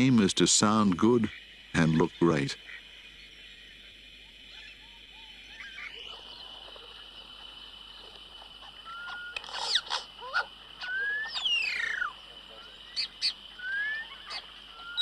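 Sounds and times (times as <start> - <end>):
steady high-pitched hum: 0.0 - 15.0.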